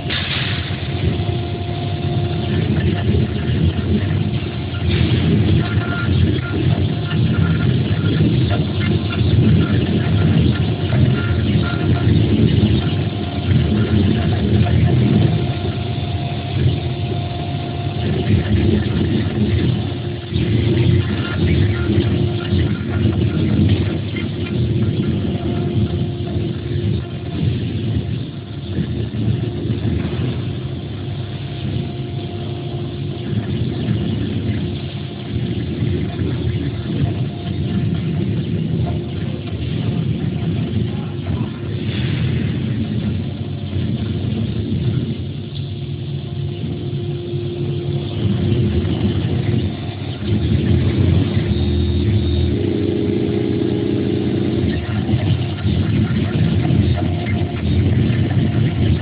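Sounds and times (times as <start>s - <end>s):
stone router machine humming: 0.0s - 59.0s.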